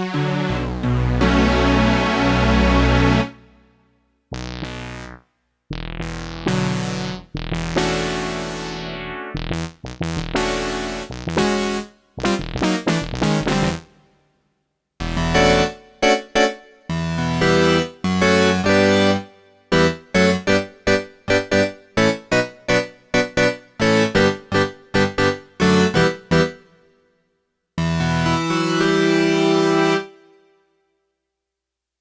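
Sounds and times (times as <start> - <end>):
synthesizer piano chords and notes: 0.0 - 3.7, 5.8 - 14.0, 15.0 - 26.8, 27.8 - 30.2.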